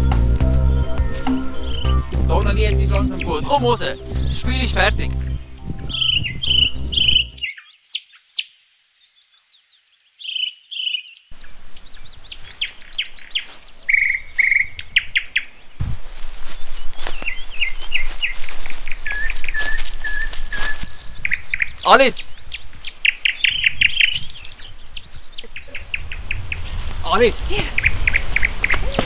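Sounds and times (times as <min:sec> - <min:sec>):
songbirds chirping and singing: 0:00.0 - 0:29.0.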